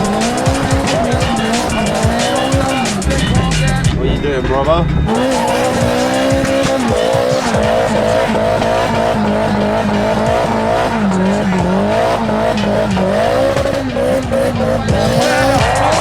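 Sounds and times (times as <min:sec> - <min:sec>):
car engine revving hard: 0:00.0 - 0:16.0
tyres squealing: 0:00.0 - 0:16.0.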